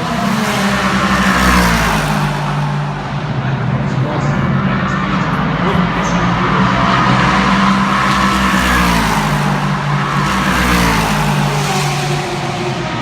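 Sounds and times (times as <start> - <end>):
race car engines at high revs: 0.0 - 13.0.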